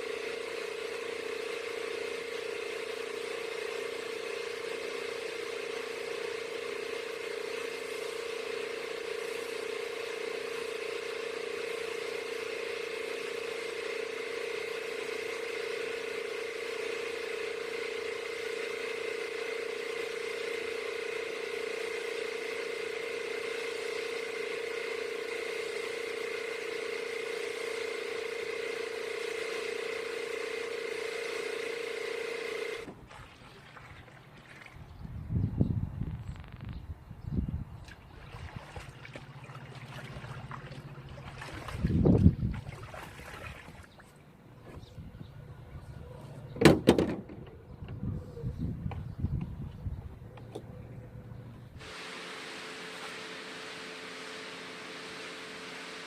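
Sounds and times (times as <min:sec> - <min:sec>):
machine whining steadily: 0:00.0 - 0:33.1, 0:38.4 - 0:56.0.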